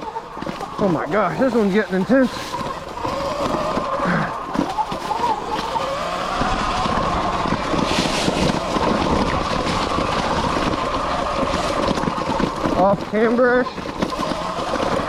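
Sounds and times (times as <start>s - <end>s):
bike rattling and knocking: 0.0s - 15.0s.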